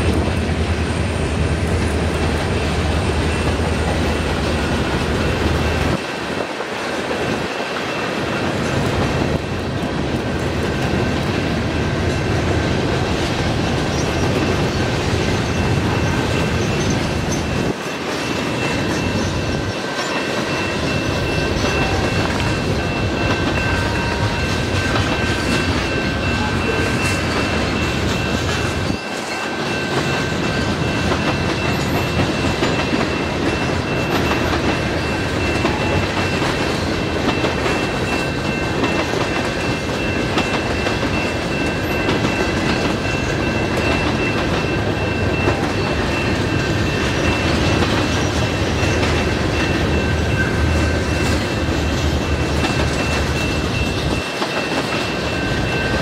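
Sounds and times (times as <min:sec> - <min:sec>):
steady high-pitched tone: 0:00.0 - 0:06.1, 0:10.2 - 0:56.0
train wheels rumbling on rails: 0:00.0 - 0:56.0.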